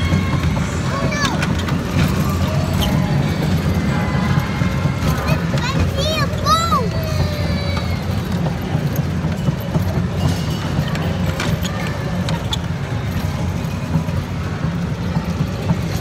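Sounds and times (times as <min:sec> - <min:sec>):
kiddie train rumbling: 0:00.0 - 0:16.0.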